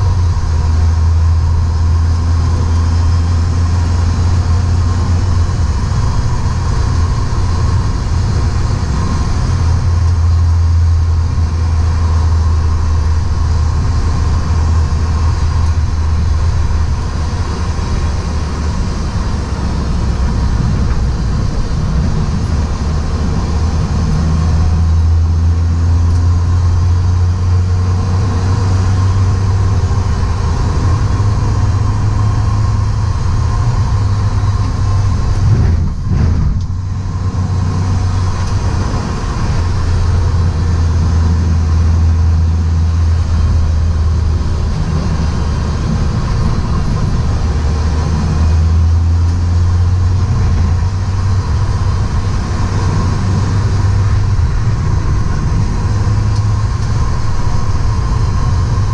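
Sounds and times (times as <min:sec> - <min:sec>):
car engine under load: 0:00.0 - 0:58.9
tyre and road noise: 0:00.0 - 0:58.9.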